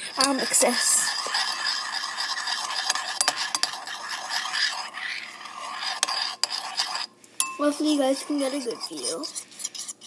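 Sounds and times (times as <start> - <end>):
spoon stirring slime: 0.0 - 10.0.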